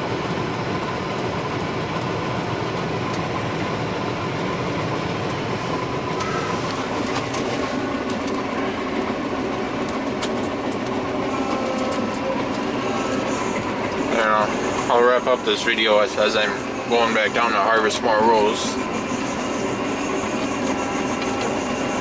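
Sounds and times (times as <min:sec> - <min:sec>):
combine harvester engine droning: 0:00.0 - 0:22.0
machinery rattle: 0:00.0 - 0:22.0.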